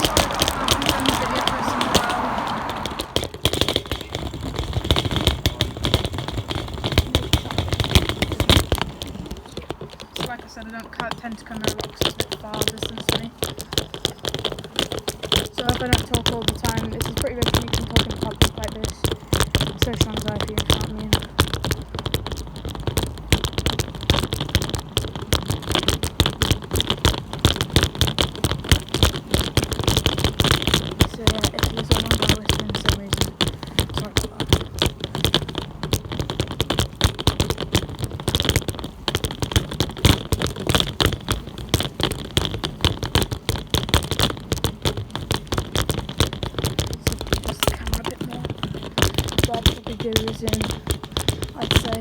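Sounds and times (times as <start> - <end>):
bicycle rattling and knocking: 0.0 - 52.0.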